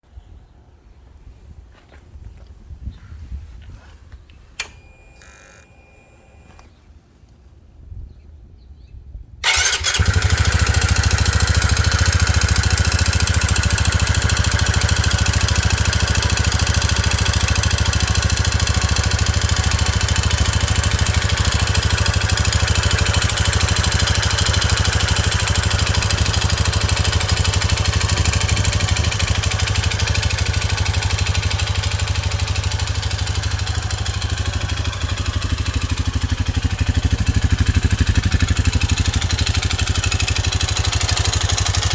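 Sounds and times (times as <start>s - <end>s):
motorcycle engine starting and idling: 4.5s - 6.9s, 9.4s - 41.9s.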